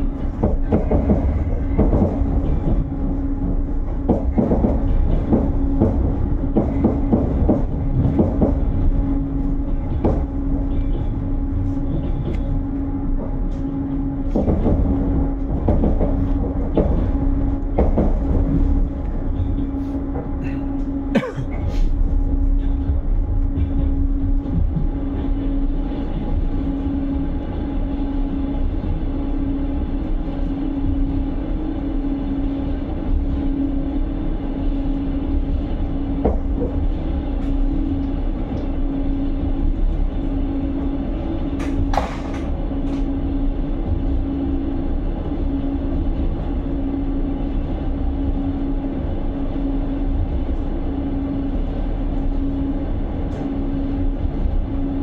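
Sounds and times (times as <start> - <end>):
train rumble inside carriage: 0.0 - 55.0.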